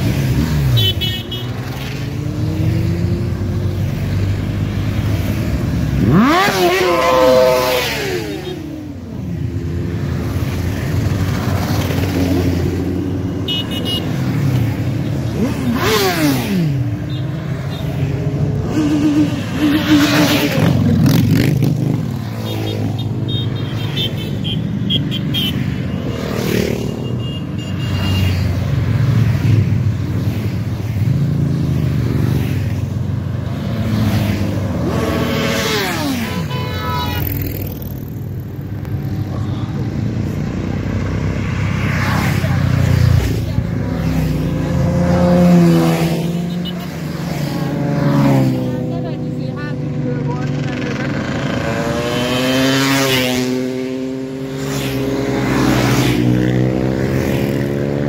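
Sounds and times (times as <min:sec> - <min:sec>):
motorcycles riding past: 0:00.0 - 0:58.0.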